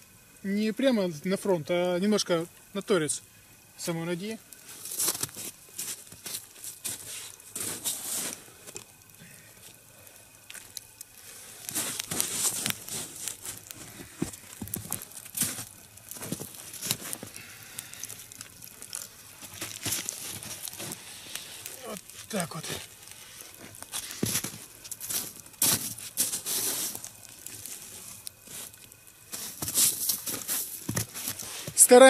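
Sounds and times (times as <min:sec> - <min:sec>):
log being turned by hand: 0:04.5 - 0:32.0.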